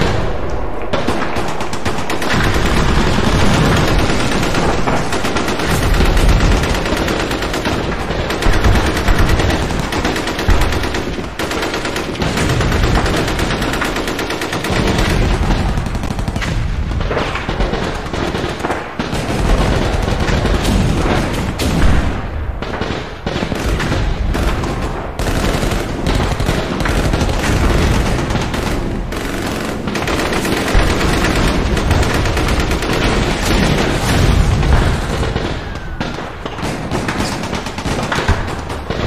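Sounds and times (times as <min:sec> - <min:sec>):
machine-gun fire: 0:00.0 - 0:39.0
scattered gunshots: 0:00.0 - 0:39.0.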